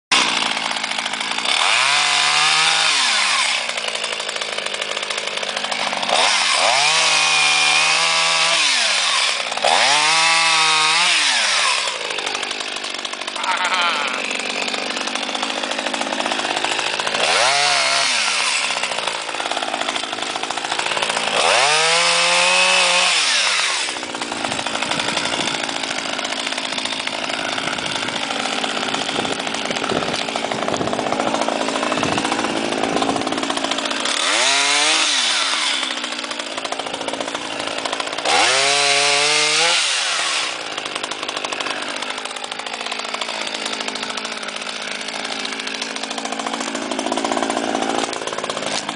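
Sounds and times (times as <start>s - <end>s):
chainsaw engine revving: 0.1s - 48.9s.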